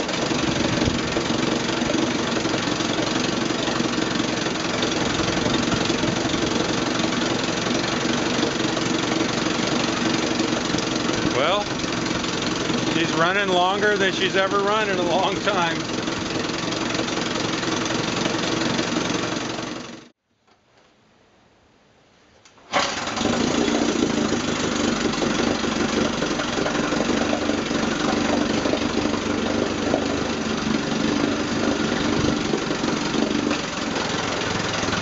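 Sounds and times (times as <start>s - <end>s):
outboard motor running: 0.0s - 20.1s, 22.8s - 35.0s.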